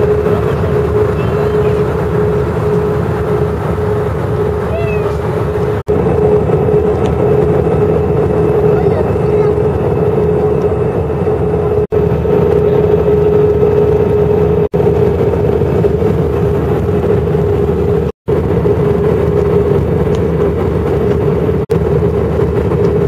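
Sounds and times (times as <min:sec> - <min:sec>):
jet engine and airflow noise: 0:00.0 - 0:23.0
steady cabin hum: 0:00.0 - 0:23.0.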